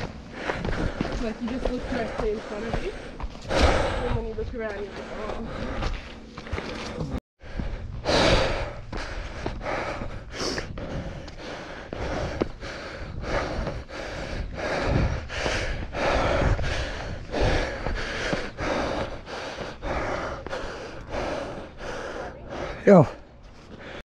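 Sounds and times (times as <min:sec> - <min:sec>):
person breathing heavily: 0:00.0 - 0:24.0.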